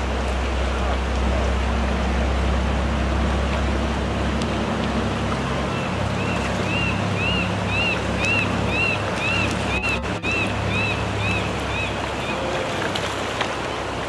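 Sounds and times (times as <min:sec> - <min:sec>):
river water over stones: 0:00.0 - 0:14.0.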